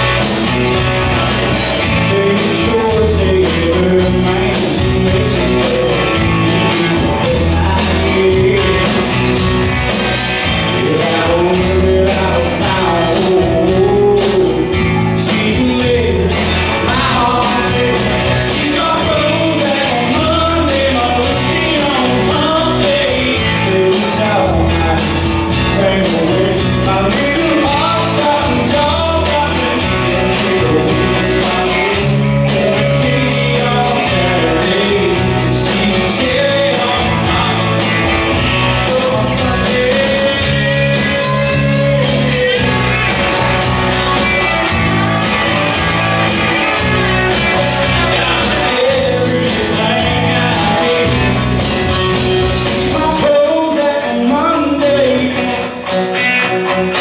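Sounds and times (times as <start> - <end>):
bass guitar: 0.0 - 57.0
drum kit beat: 0.0 - 57.0
electric and acoustic guitars: 0.0 - 57.0
person singing: 0.0 - 57.0.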